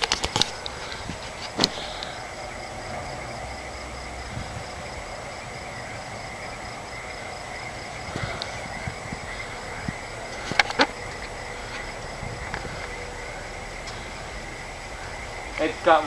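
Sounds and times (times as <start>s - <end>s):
insects and frogs trilling: 0.0s - 16.0s.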